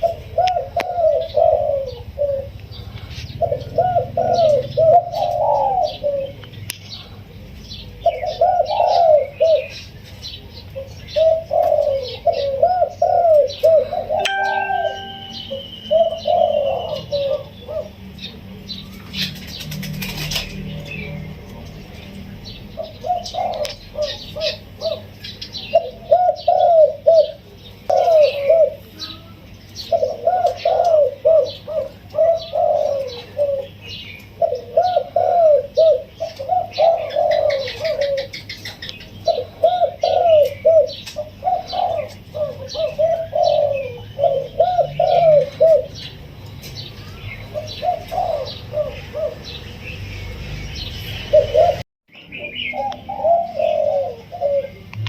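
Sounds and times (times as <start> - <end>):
dove cooing: 0.0 - 7.1, 7.8 - 21.2, 22.7 - 46.1, 47.4 - 49.6, 50.8 - 51.8, 52.4 - 55.0
small birds chirping: 0.0 - 55.0.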